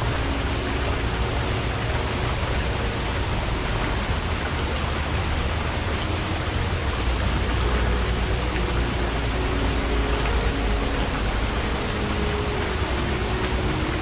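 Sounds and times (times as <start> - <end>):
stream rushing: 0.0 - 14.0.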